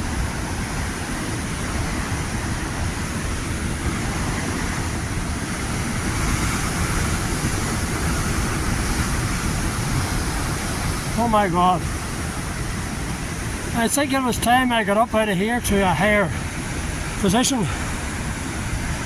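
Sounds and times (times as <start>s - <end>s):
heavy surf breaking: 0.0s - 19.0s.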